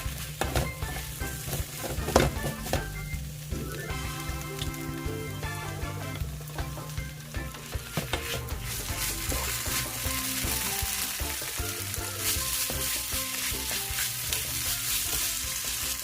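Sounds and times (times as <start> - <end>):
background music: 0.0 - 16.0
food sizzling in hot oil: 0.0 - 16.0.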